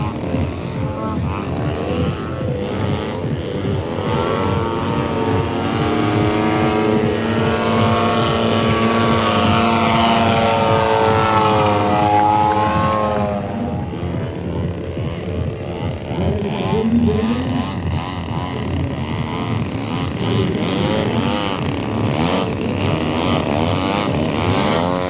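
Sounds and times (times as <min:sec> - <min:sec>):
model plane engine droning: 0:00.0 - 0:25.0.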